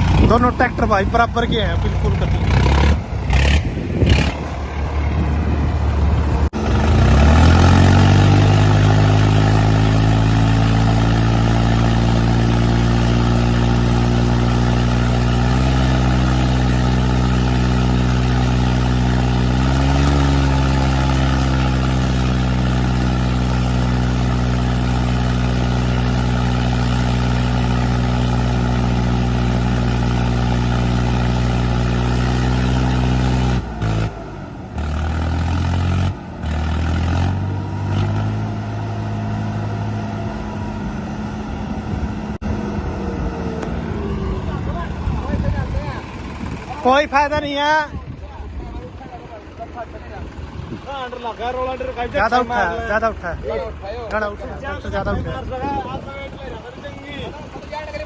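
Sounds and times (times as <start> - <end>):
tractor diesel engine straining: 0.0 - 58.0.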